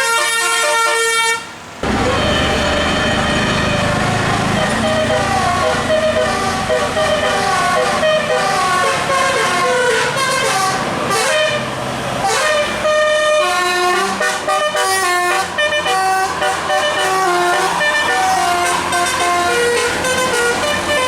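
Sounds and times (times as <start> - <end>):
musical bus air horn tune: 0.0 - 21.0.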